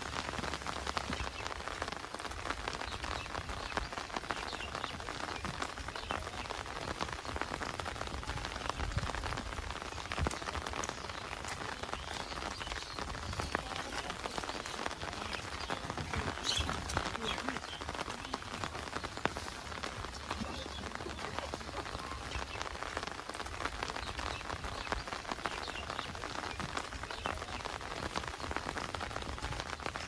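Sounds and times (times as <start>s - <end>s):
close raindrop hits: 0.0s - 30.0s
heavy rain falling: 0.0s - 30.0s.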